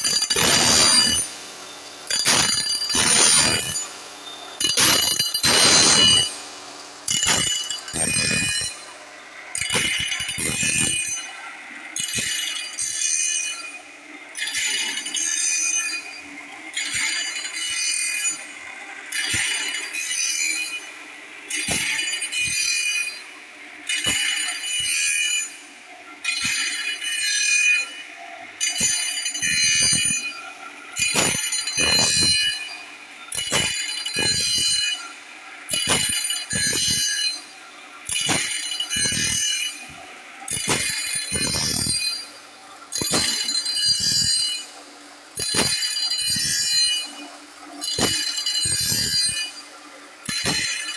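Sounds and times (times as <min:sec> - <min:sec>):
shrill blade grinding: 0:00.0 - 0:06.4, 0:07.0 - 0:25.6, 0:26.2 - 0:50.9.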